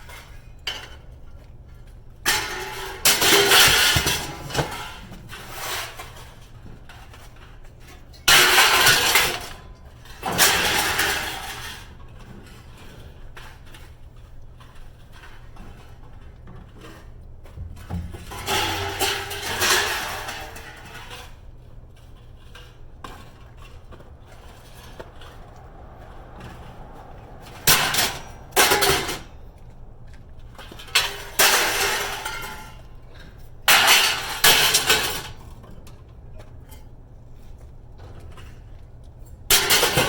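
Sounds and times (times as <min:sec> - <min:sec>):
scrap metal clanking: 0:02.2 - 0:40.0.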